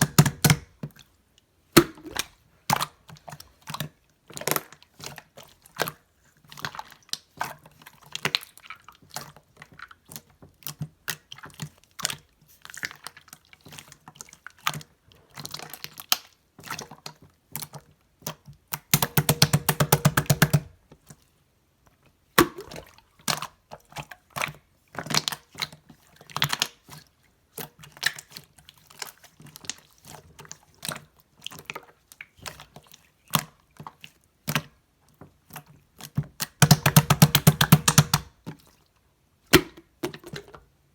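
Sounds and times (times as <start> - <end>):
slime squishing with sticky pops: 0.0 - 1.1, 1.8 - 21.2, 22.3 - 38.7.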